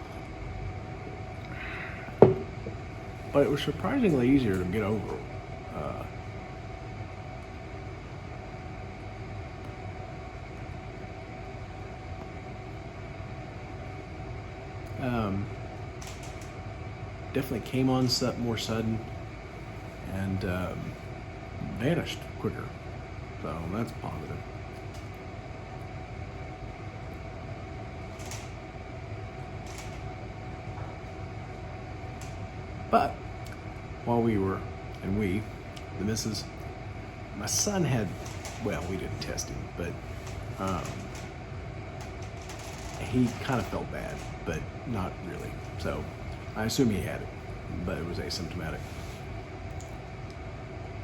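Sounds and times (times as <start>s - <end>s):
fan humming: 0.0s - 51.0s.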